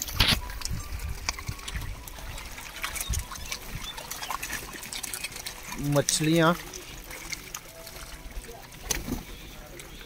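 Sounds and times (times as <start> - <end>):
fish splashing in water: 0.0 - 10.0.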